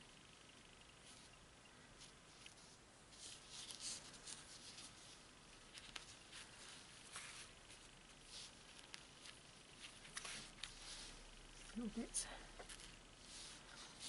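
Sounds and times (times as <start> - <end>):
fabric rustling: 0.8 - 14.0.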